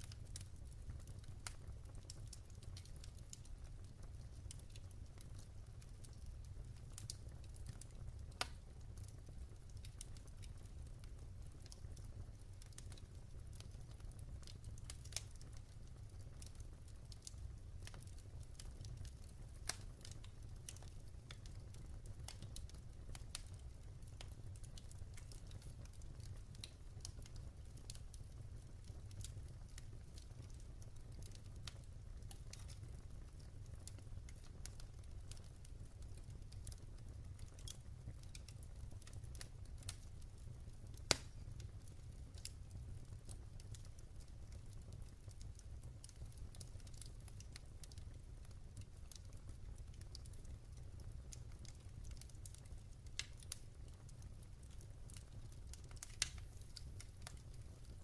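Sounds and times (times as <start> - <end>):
low rumble of fire: 0.0 - 58.0
wood fire crackling: 0.0 - 58.0.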